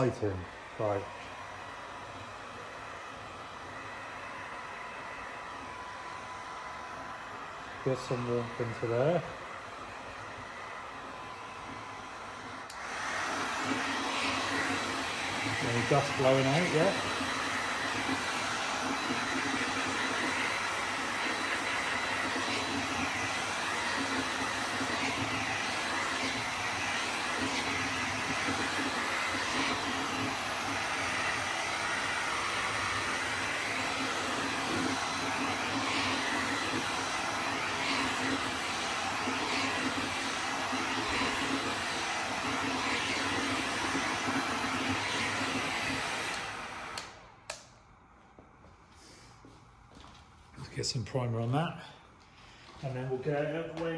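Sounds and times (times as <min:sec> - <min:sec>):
heat gun blowing hot air: 0:00.0 - 0:47.7.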